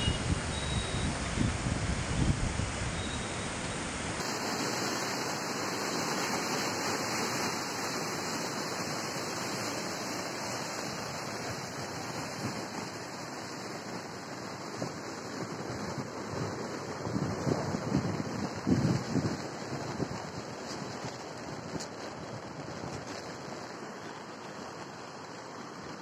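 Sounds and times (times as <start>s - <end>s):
floodwater rushing: 0.8s - 26.0s.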